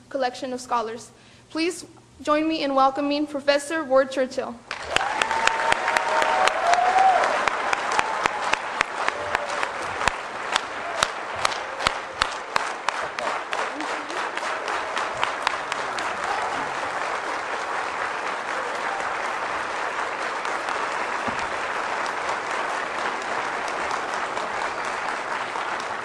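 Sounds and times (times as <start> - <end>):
audience applauding: 4.7 - 26.0.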